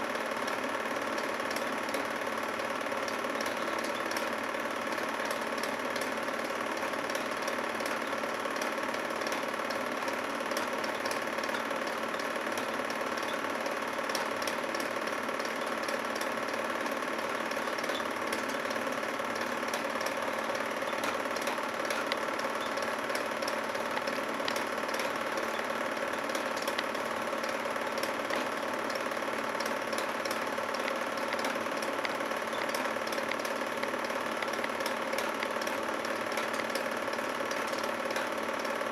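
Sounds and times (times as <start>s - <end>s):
film projector whirring: 0.0s - 38.9s
film transport ticking: 0.0s - 38.9s.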